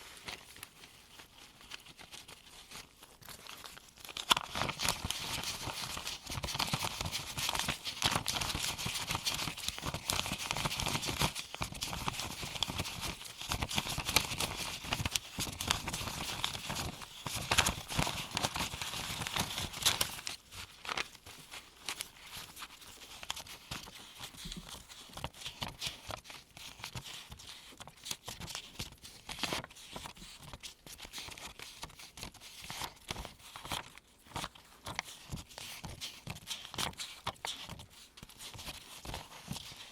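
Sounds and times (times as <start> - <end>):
paper bills rustling and snapping: 0.0 - 39.9.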